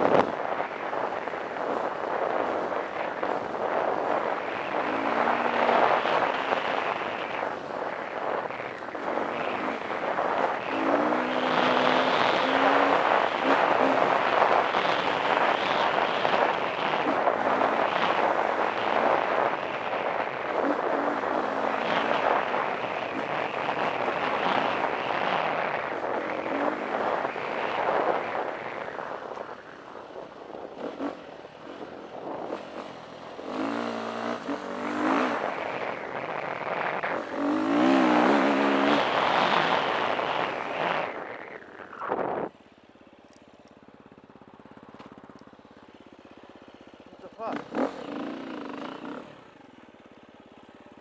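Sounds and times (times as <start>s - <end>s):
dirt bike engine revving: 0.0s - 42.5s, 44.6s - 49.8s
wind noise on microphone: 0.0s - 42.6s.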